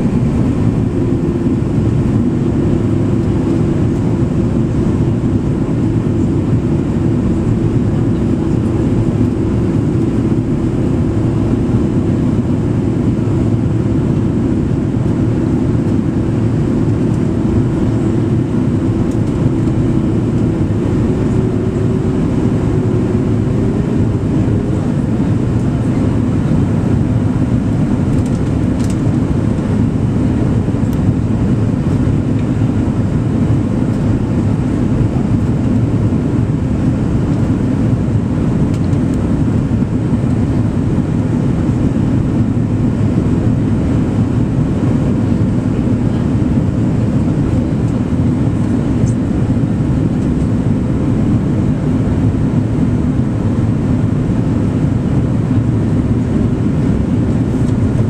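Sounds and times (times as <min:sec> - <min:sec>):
low rumble of engines and air: 0:00.0 - 0:58.0.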